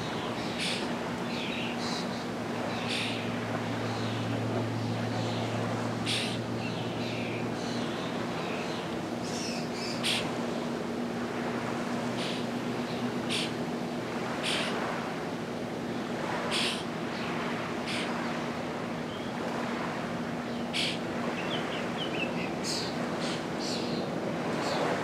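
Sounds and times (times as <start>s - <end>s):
birds calling: 0.0s - 25.0s
steady low hum: 0.0s - 25.0s
water: 0.0s - 25.0s
wind: 0.0s - 25.0s.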